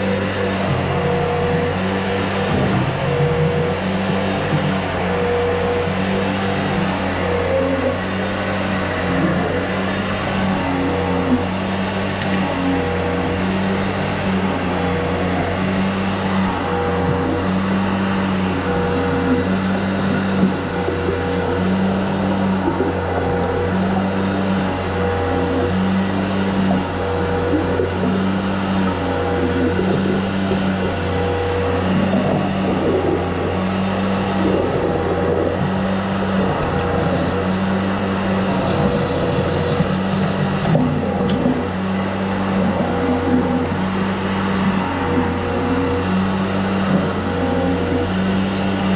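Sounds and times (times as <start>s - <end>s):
machine motor humming: 0.0s - 48.9s.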